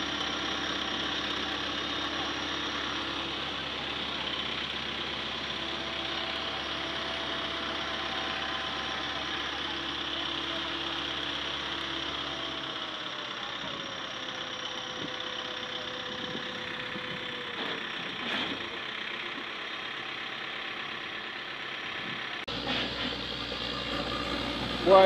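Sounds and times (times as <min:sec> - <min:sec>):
heavy vehicle engine running: 0:00.0 - 0:25.0.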